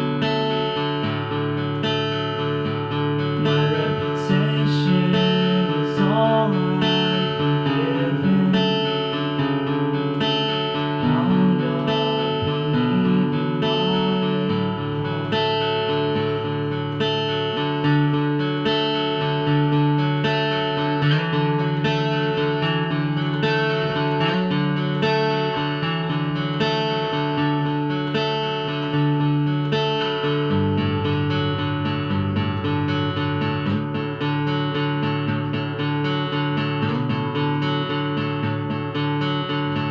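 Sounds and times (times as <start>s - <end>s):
acoustic guitar strumming chords: 0.0s - 39.9s.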